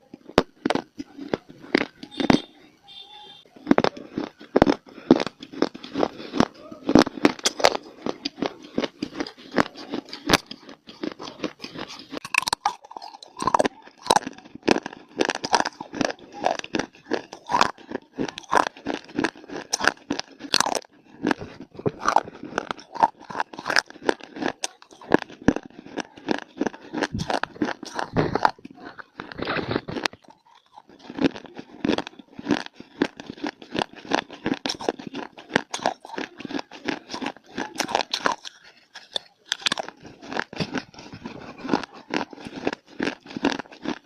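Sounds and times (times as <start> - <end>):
crunching of chewing clay: 0.0 - 44.0.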